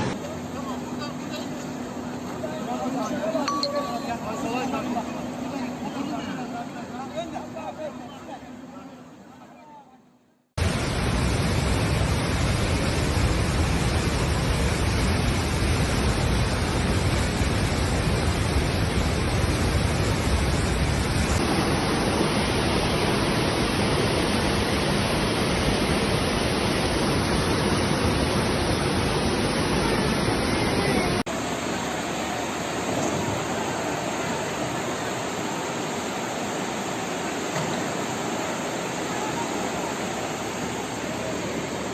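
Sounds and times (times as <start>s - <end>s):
floodwater roaring: 0.0s - 9.2s, 10.6s - 41.9s.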